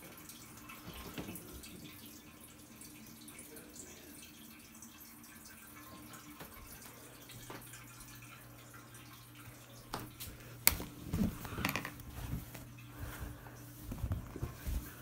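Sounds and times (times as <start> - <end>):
aquarium filter water trickle: 0.0 - 15.0
faint steady hum: 0.0 - 15.0.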